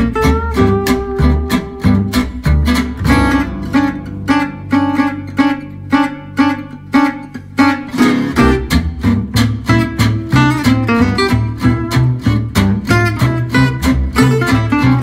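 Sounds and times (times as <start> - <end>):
bass line: 0.0 - 15.0
plucked guitar music: 0.0 - 15.0.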